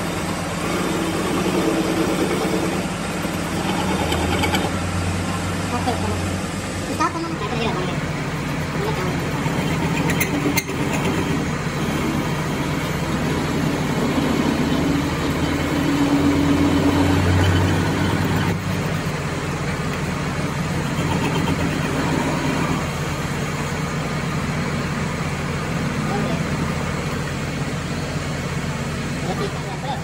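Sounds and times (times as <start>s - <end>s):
metal lathe cutting: 0.0s - 27.4s.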